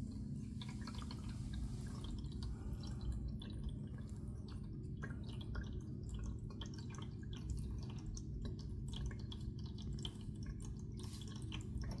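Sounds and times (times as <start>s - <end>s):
cat lapping water: 0.1s - 12.0s.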